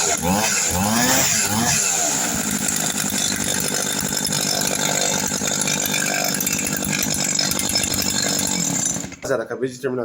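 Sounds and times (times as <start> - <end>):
brush cutter engine running: 0.0 - 9.3.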